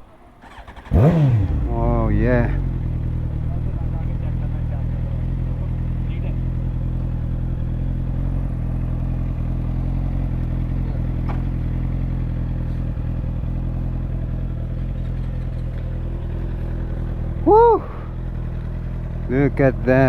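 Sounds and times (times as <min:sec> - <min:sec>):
motorcycle engine idling: 0:00.4 - 0:20.0.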